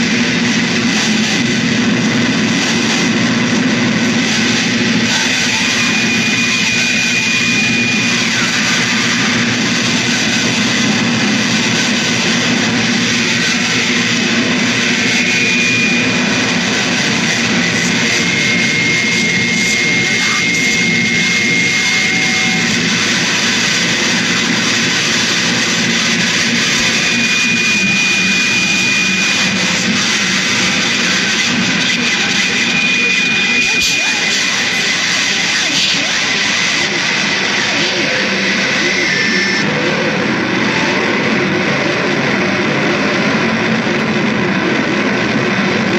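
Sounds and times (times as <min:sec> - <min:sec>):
harsh electronic noise music: 0:00.0 - 0:45.9.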